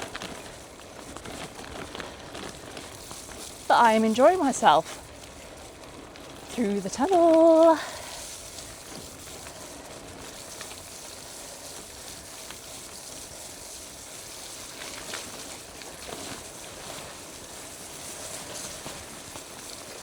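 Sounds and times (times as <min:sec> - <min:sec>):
bike tyres rolling on wet trail: 0:00.0 - 0:20.0.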